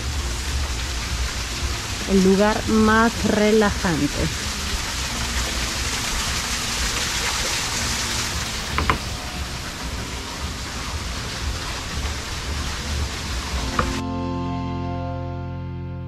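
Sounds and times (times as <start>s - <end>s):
waterfall splashing down rocks: 0.0s - 14.0s.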